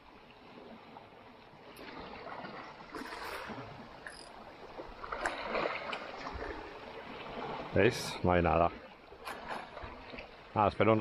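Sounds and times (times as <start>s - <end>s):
waves splashing against rocks: 1.6s - 11.0s.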